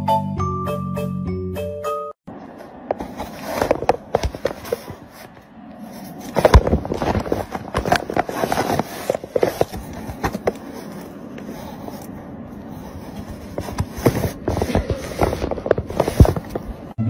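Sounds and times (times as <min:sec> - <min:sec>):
kitten scratching inside cardboard box: 0:03.0 - 0:16.8.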